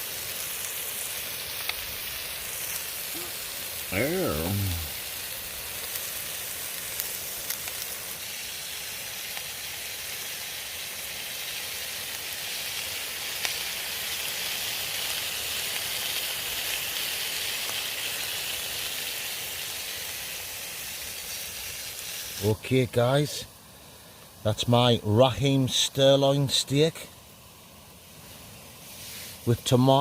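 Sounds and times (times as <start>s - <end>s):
steak sizzling in a frying pan: 0.0s - 30.0s.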